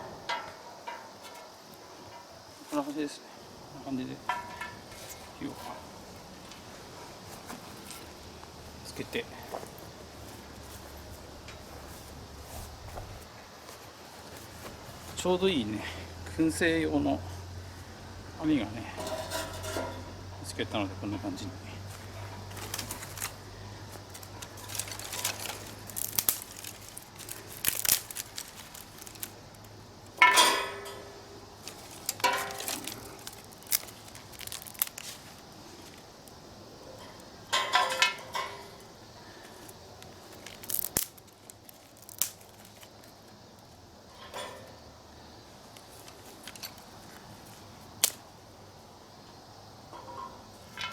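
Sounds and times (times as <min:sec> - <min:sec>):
firewood crackling: 0:00.0 - 0:50.9.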